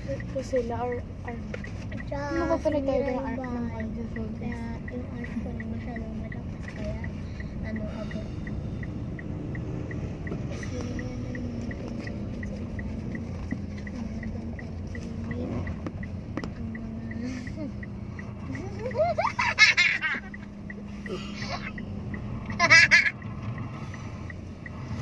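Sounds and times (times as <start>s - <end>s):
car engine and road drone: 0.0s - 25.0s
light even ticking: 0.0s - 25.0s.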